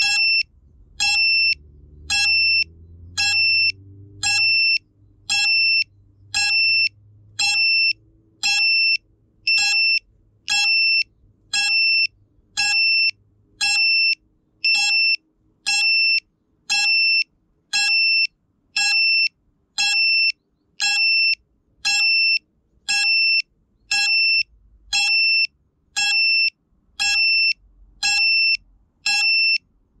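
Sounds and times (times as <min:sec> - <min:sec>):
high electronic buzzer beeps: 0:00.0 - 0:29.6.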